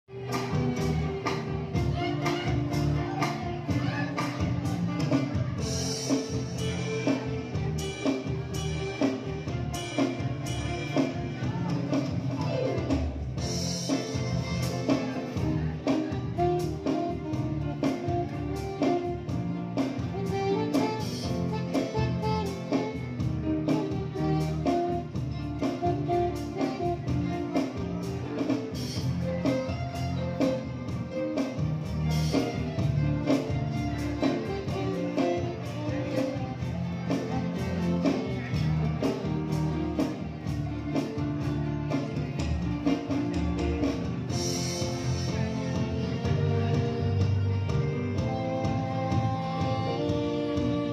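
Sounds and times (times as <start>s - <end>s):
bass: 0.0s - 50.9s
violins: 0.0s - 50.9s.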